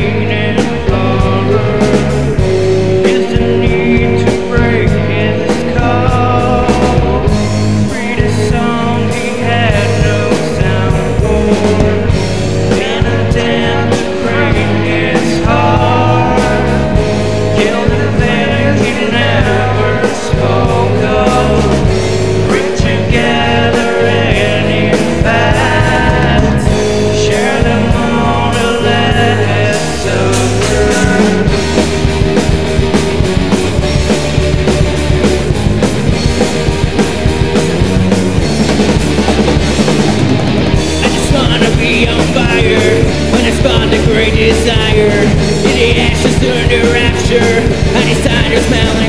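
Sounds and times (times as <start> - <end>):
alternative rock band playing: 0.0 - 49.0.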